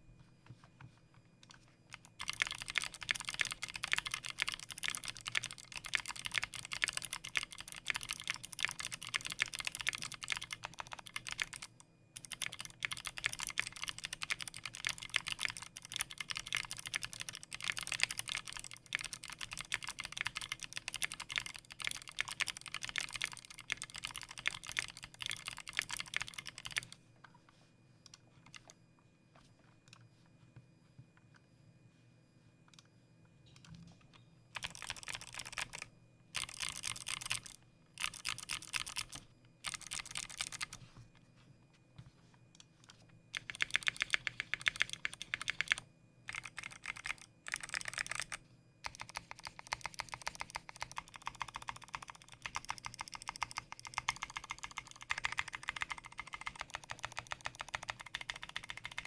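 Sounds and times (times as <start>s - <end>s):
faint low hum: 0.0s - 59.0s
fast keyboard typing: 1.4s - 27.4s, 28.1s - 28.8s, 34.6s - 40.9s, 42.7s - 59.0s.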